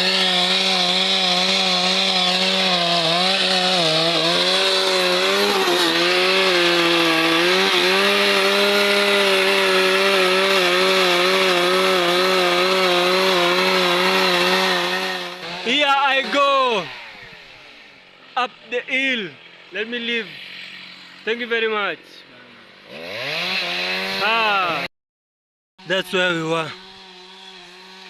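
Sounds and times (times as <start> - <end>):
chainsaw cutting wood: 0.0 - 21.9, 22.6 - 24.9, 25.8 - 28.0.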